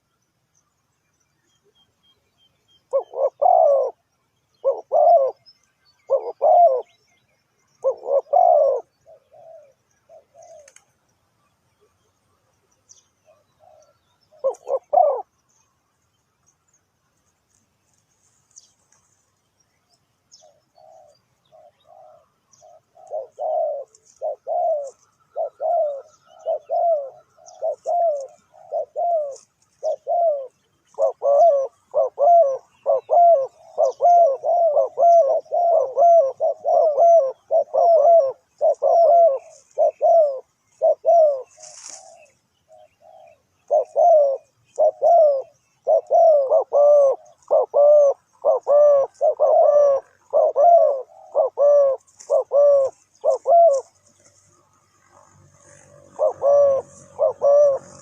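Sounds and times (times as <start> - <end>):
small birds chirping: 0.0 - 58.0
doves cooing: 2.8 - 11.1, 12.9 - 15.6, 20.3 - 58.0.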